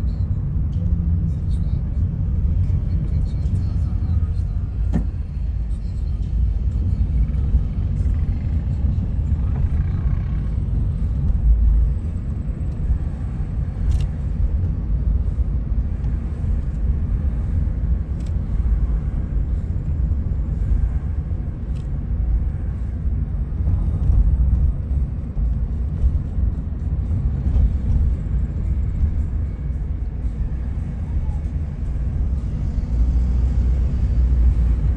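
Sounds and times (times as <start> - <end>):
car driving slowly: 0.0 - 34.9.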